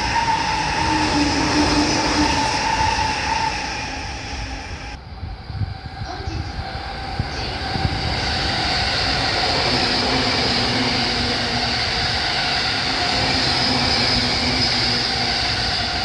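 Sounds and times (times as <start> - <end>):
electric train running: 0.0 - 16.0.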